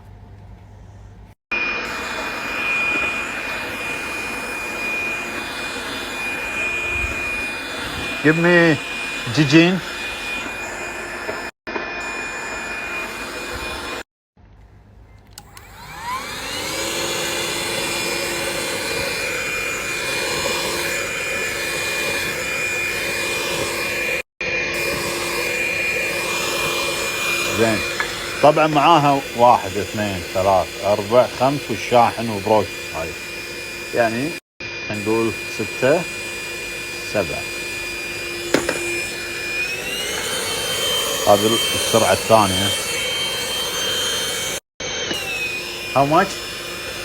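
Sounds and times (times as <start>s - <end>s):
handheld vacuum cleaner running: 1.5s - 14.1s, 15.4s - 47.0s.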